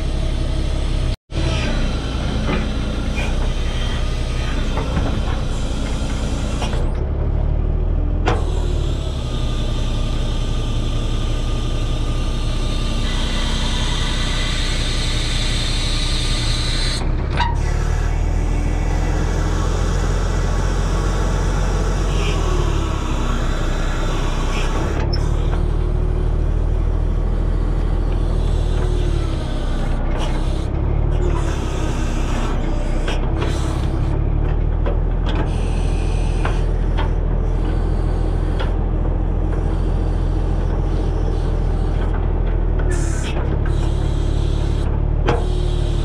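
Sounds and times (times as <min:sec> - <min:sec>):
loader and log clanks: 0:00.0 - 0:46.0
truck engine running: 0:00.0 - 0:46.0.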